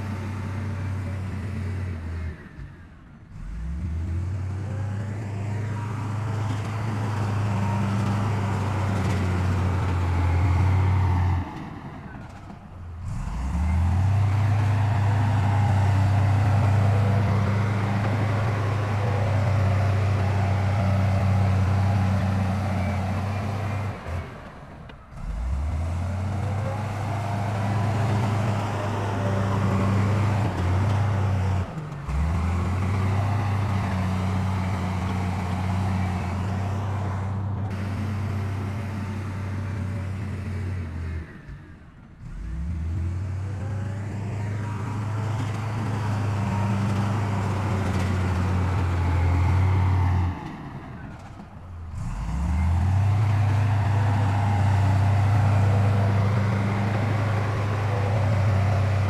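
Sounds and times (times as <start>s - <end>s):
heavy machinery diesel engines droning: 0.0s - 59.0s.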